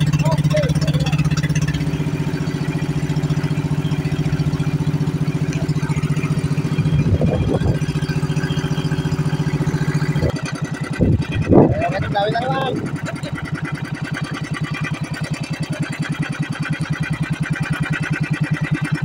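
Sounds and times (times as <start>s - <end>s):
small boat engine running: 0.0s - 19.0s.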